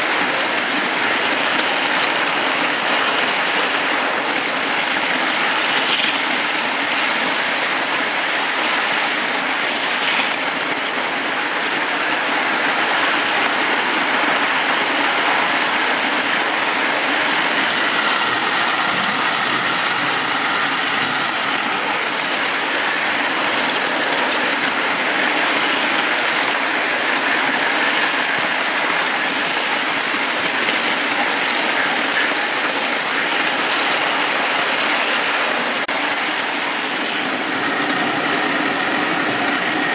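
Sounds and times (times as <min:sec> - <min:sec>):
toy train motor: 0:00.0 - 0:39.9
toy train wheels rattling on rails: 0:00.0 - 0:39.9.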